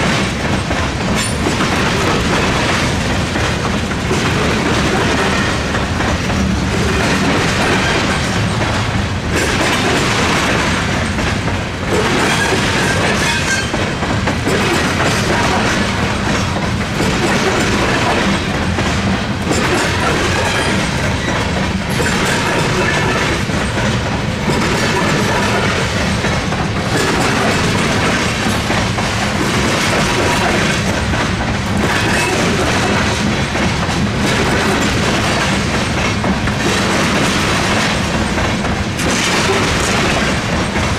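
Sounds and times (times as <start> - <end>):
train wheels clattering over crossing: 0.0 - 40.9.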